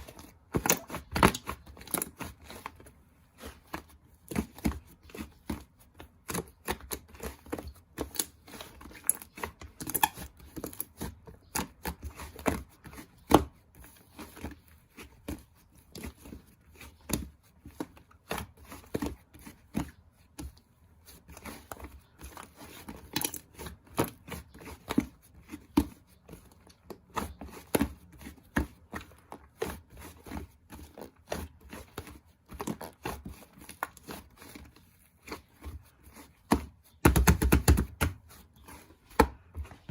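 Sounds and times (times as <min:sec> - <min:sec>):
hands kneading slime: 0:00.0 - 0:39.9.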